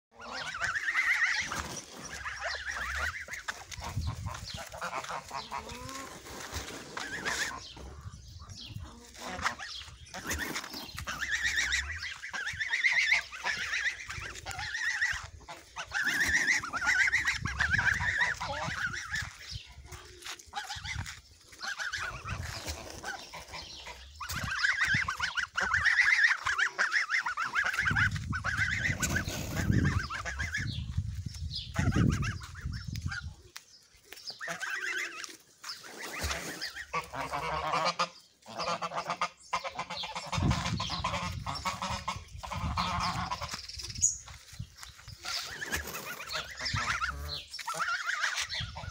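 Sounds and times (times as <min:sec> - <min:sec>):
geese honking: 0:00.1 - 0:19.6, 0:20.2 - 0:30.8, 0:31.7 - 0:33.2, 0:34.3 - 0:43.8, 0:45.1 - 0:48.9
farmyard fowl calling: 0:00.1 - 0:33.4, 0:34.0 - 0:48.9.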